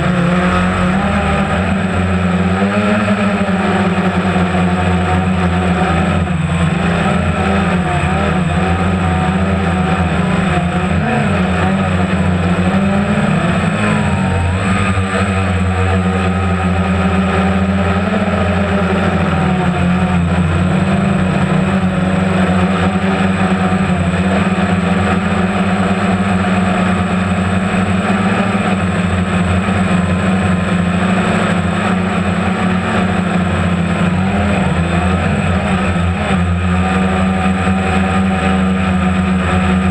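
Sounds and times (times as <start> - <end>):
motorboat engine humming: 0.0 - 39.9.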